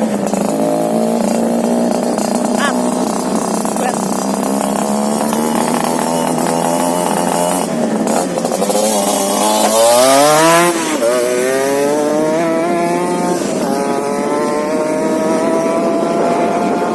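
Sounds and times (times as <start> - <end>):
two-stroke motorcycle engine revving: 0.0 - 16.9.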